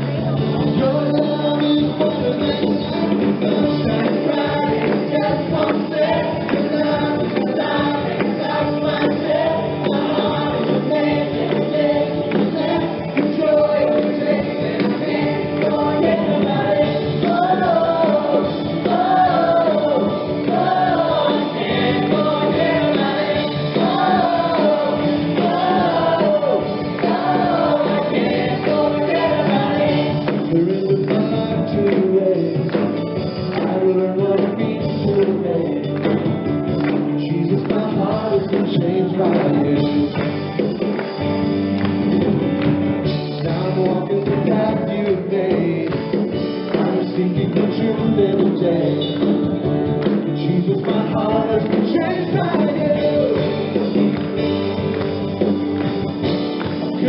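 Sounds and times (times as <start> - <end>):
people singing: 0.0 - 33.0, 33.6 - 36.0, 37.2 - 40.2, 43.3 - 49.5, 50.1 - 54.5
upbeat worship song: 0.0 - 57.0.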